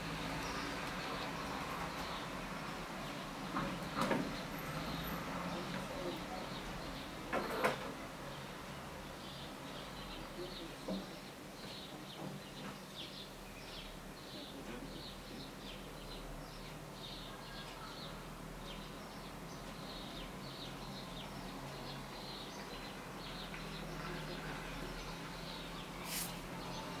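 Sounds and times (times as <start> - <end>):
small birds chirping: 0.1 - 27.0.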